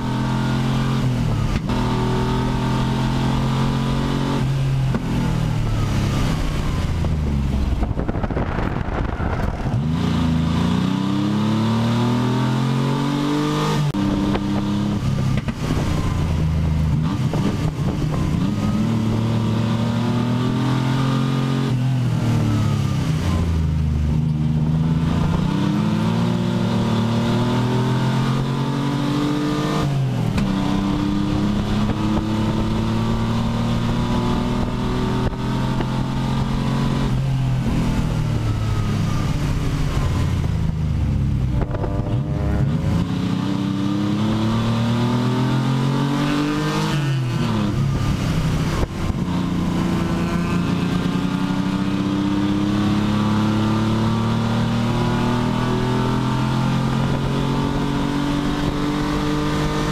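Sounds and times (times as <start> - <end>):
race car engine running hard: 0.0 - 59.9
road and wind noise: 0.0 - 59.9.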